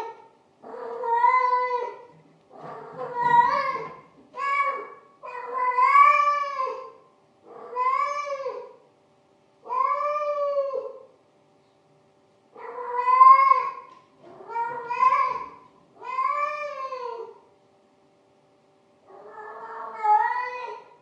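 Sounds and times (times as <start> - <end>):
cat yowling: 0.0 - 8.8, 9.7 - 11.0, 12.6 - 17.4, 19.1 - 21.0.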